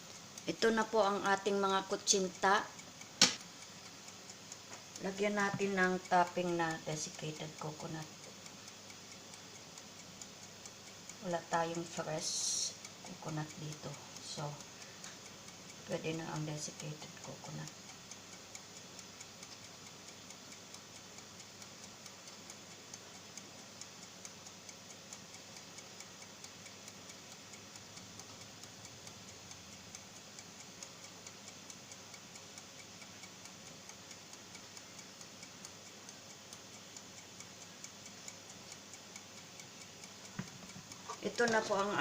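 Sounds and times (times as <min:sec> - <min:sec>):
faint ticking: 0:00.0 - 0:42.0
light background hiss: 0:00.0 - 0:42.0.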